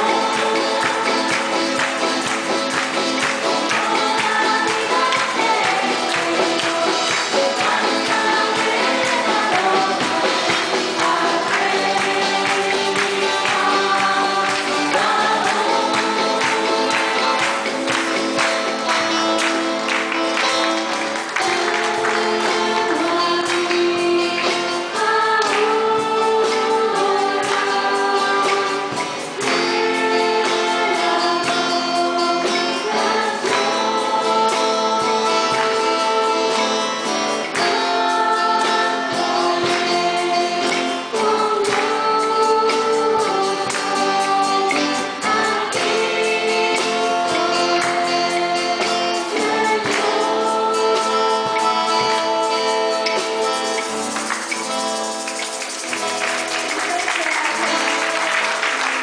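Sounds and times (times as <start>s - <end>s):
group singing a worship song: 0.0s - 59.0s
instrumental accompaniment: 0.0s - 59.0s
steady percussive beat: 0.0s - 59.0s.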